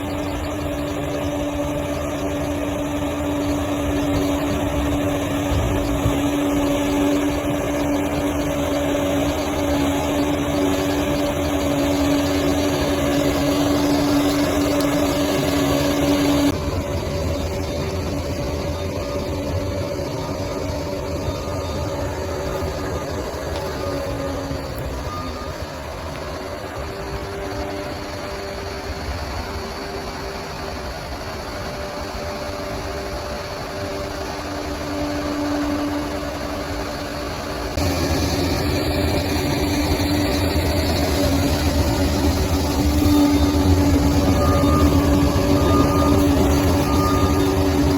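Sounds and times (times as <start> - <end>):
bulldozer diesel engine running: 0.0 - 47.9
steady whine: 0.0 - 47.9.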